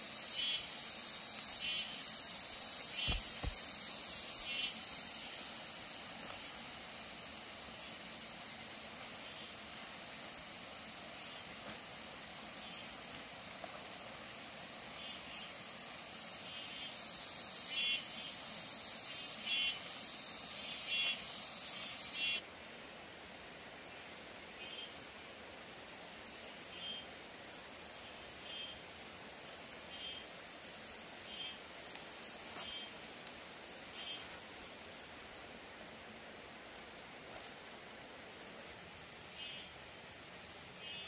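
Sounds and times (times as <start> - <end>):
insects chirping: 0.0 - 41.0
steady high hiss: 0.0 - 41.0.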